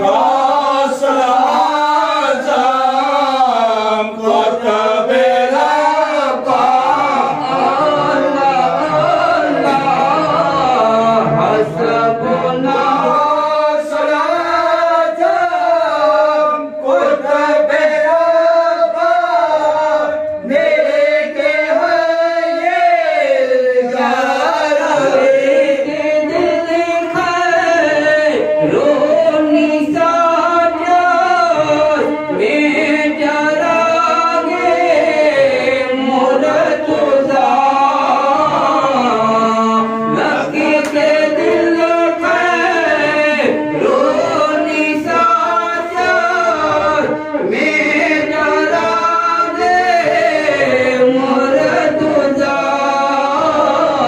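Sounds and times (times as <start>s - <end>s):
men chanting through a microphone: 0.0s - 54.0s.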